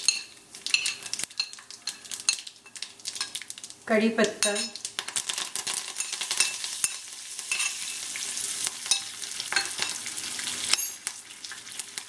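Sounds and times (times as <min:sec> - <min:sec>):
spices crackling in hot oil: 0:00.0 - 0:12.0.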